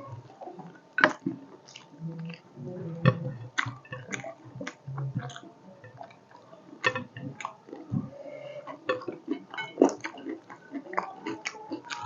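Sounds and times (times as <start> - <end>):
wet chewing: 0.4 - 12.0.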